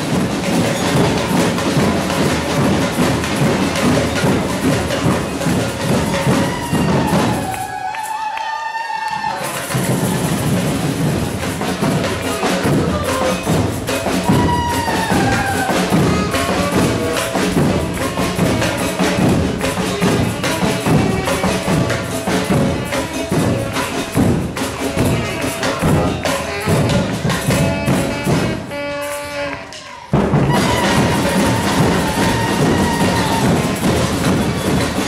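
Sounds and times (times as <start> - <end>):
bass drums: 0.0 - 7.6, 9.7 - 28.8, 30.1 - 35.0
samba percussion band: 0.0 - 8.2, 9.0 - 35.0
jingling hand percussion: 0.0 - 8.4, 9.0 - 35.0.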